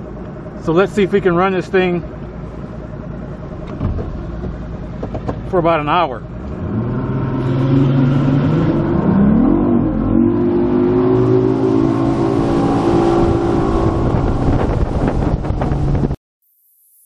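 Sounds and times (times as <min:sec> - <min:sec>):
outboard motor running: 0:00.0 - 0:08.4, 0:09.7 - 0:16.2.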